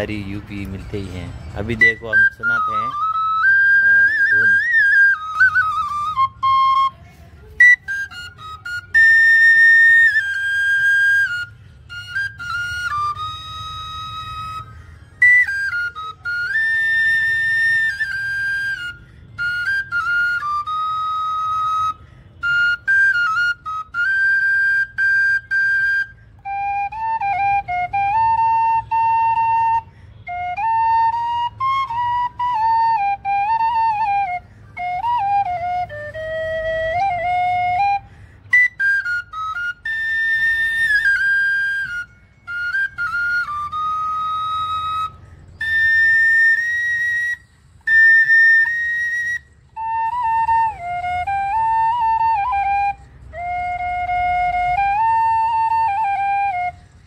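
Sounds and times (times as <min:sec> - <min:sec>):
bamboo flute melody: 0:00.0 - 0:57.0.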